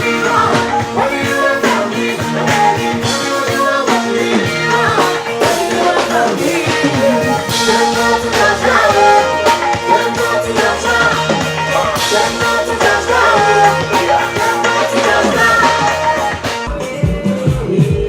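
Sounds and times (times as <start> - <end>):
held instrumental notes: 0.0 - 17.0
person singing: 0.0 - 18.0
steady drum beat: 0.0 - 18.0.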